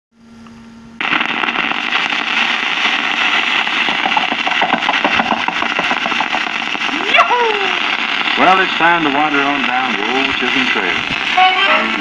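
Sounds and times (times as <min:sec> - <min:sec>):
record surface hiss and crackle: 0:00.2 - 0:12.0.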